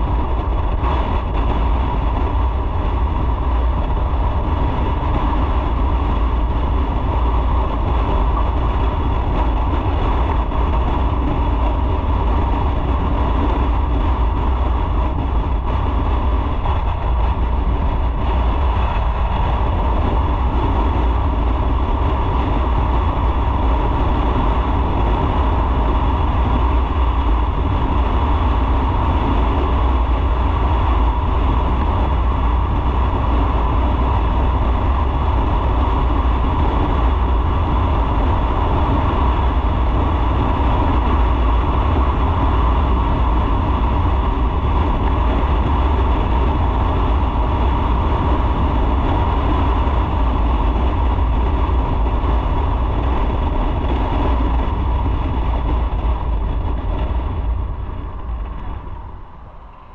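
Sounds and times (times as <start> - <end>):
motorcycle engine rumble: 0.0 - 59.9
road and wind noise: 0.0 - 59.9.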